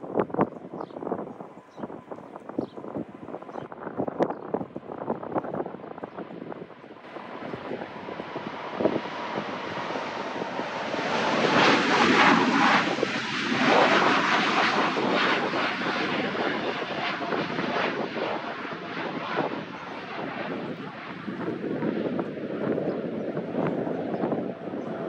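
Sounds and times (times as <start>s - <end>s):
jet engines roaring at takeoff: 0.2s - 25.0s.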